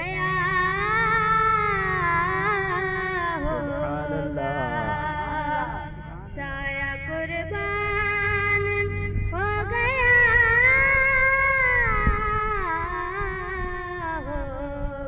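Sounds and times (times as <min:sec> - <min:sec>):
boy singing into a microphone: 0:00.0 - 0:15.0.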